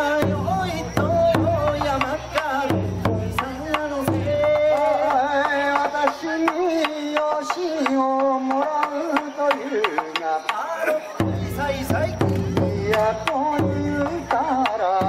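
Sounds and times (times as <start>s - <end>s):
man singing through a microphone: 0.0s - 15.0s.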